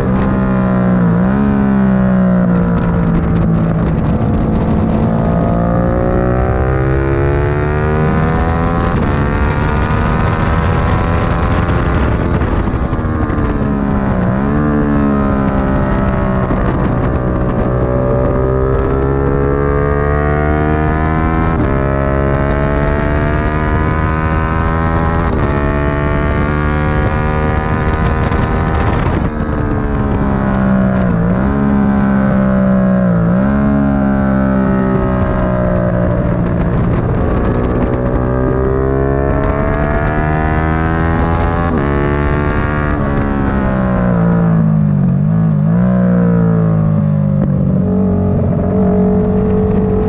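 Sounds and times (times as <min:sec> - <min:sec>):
motorcycle engine revving: 0:00.0 - 0:50.0
wind rush: 0:00.0 - 0:50.0.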